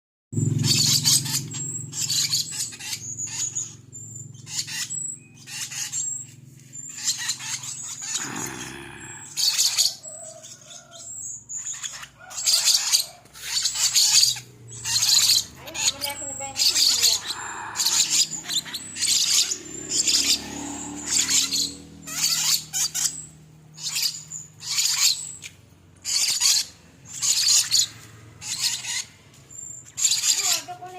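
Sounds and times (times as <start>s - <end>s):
lovebird chattering: 0.4s - 30.9s.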